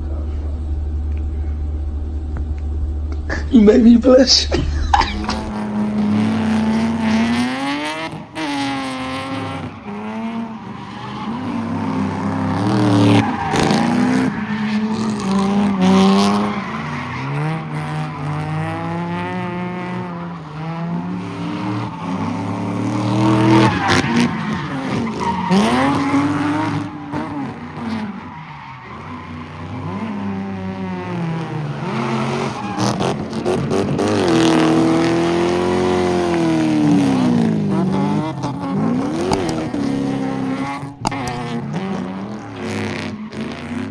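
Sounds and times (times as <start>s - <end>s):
tires squealing: 4.8s - 43.9s
car engine revving hard: 4.9s - 28.4s, 29.0s - 43.9s.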